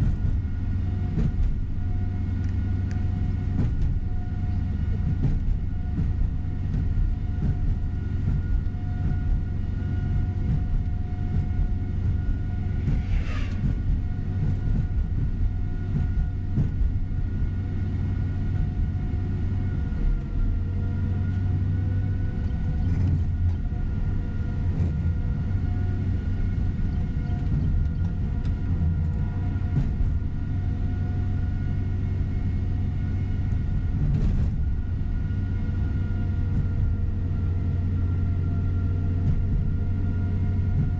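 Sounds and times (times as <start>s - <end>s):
coach engine hum: 0.0s - 40.9s
road rumble: 0.0s - 40.9s.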